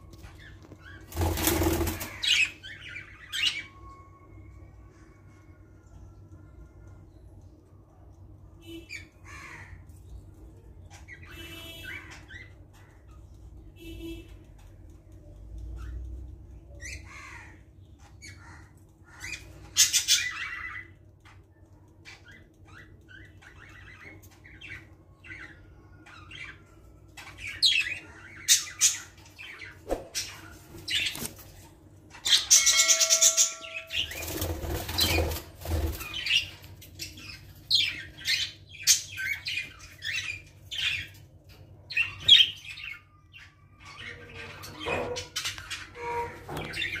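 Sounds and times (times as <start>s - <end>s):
cage birds chirping: 0.0s - 47.0s
low steady hum: 0.0s - 47.0s.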